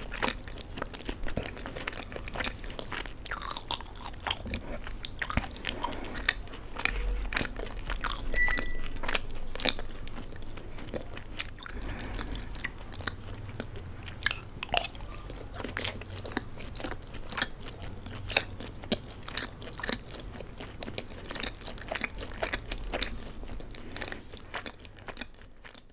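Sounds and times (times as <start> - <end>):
person chewing pasta: 0.0 - 25.9.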